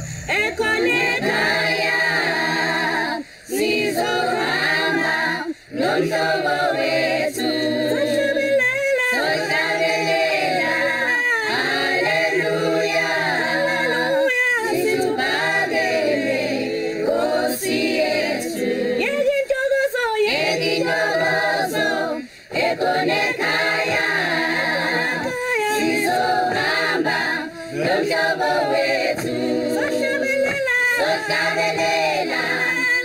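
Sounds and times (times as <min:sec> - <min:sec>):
choir singing a cappella: 0:00.0 - 0:33.0.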